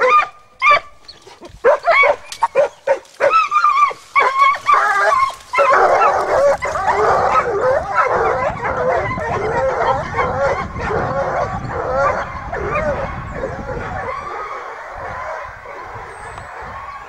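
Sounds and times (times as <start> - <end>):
hounds baying and yelping: 0.0 - 17.0.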